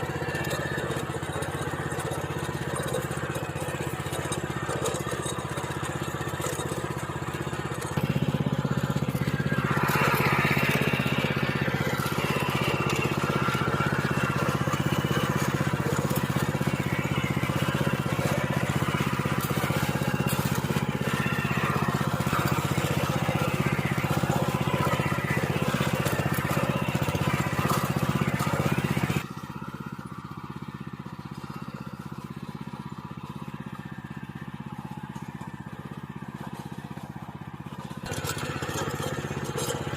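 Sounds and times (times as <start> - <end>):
grinding of tilling stony soil: 0.0 - 39.9
small plough engine running: 0.0 - 39.9.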